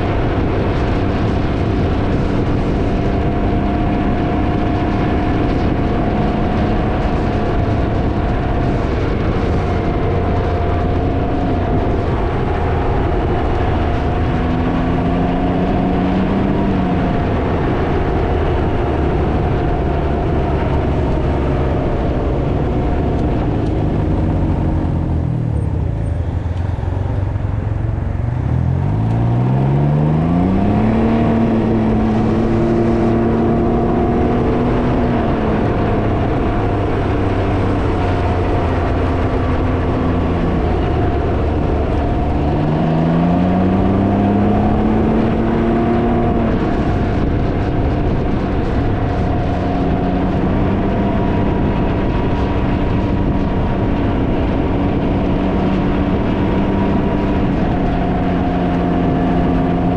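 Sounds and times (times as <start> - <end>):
three-wheeler engine running: 0.0 - 59.9
wind buffeting microphone: 0.0 - 59.9.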